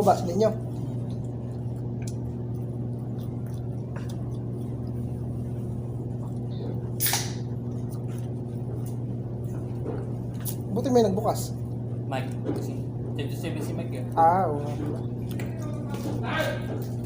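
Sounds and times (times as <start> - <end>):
steady low hum with tones: 0.0 - 17.0.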